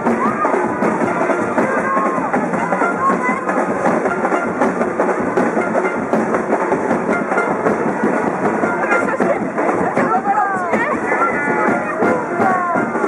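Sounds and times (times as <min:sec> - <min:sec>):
crowd noise: 0:00.0 - 0:13.0
marching band drums and brass: 0:00.0 - 0:13.0.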